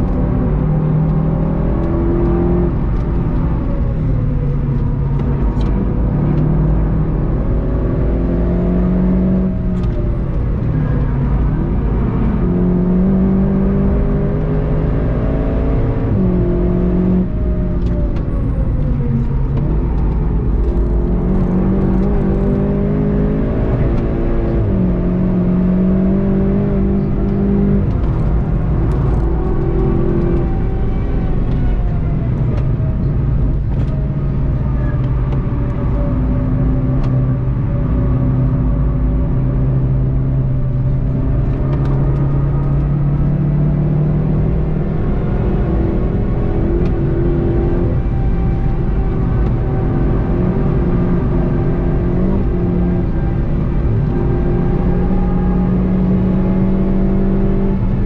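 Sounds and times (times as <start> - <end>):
car engine revving: 0.0 - 58.0
road and wind rumble: 0.0 - 58.0.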